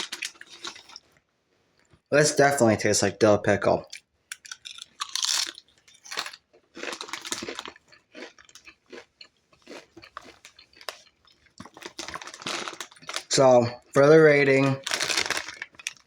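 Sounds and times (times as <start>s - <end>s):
crunching tortilla chips: 0.0s - 1.2s, 3.9s - 16.0s.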